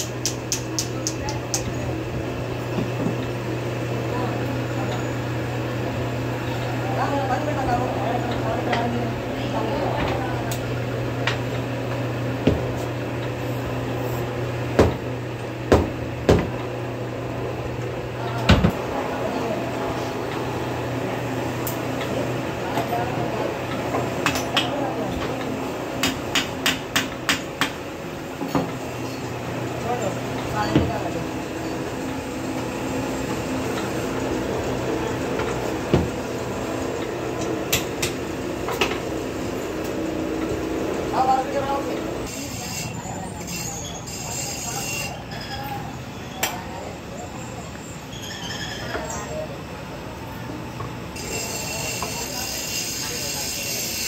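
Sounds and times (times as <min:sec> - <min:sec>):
low workshop machine hum: 0:00.0 - 0:54.0.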